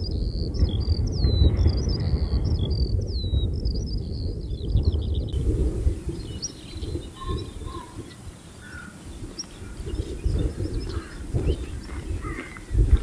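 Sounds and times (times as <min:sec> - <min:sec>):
small birds chirping: 0:00.0 - 0:13.0
wind rumbling on microphone: 0:00.0 - 0:13.0.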